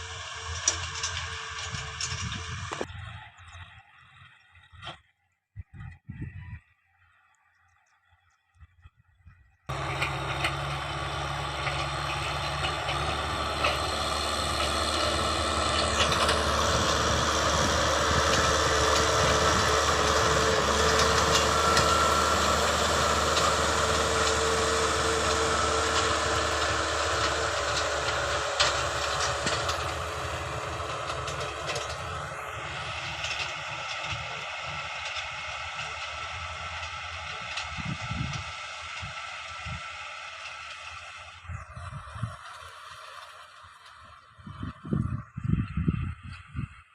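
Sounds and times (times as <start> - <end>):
farm machine engine running: 0.0 - 5.2, 7.0 - 46.9.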